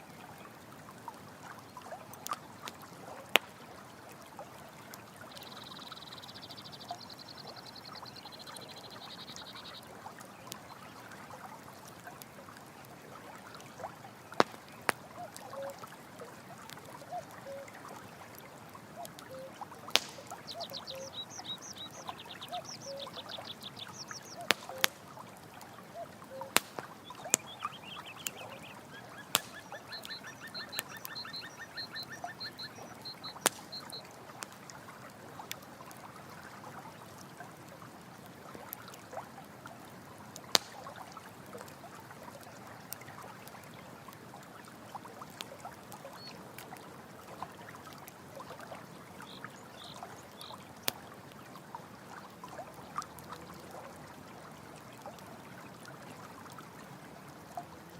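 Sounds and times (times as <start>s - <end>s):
running water: 0.0s - 57.9s
campfire crackling and popping: 0.2s - 54.2s.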